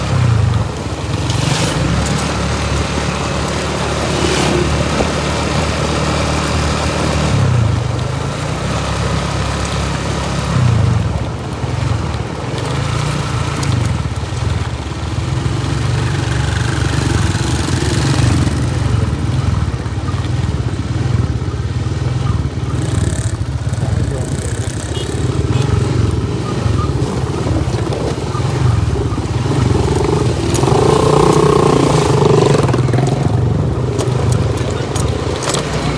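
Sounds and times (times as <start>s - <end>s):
constant rushing noise: 0.0s - 35.9s
motorcycle engine humming: 0.0s - 35.9s.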